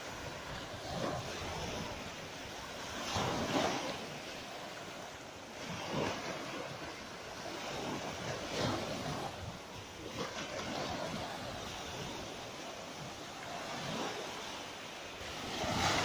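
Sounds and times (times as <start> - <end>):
sea waves washing up beach: 0.0 - 16.0.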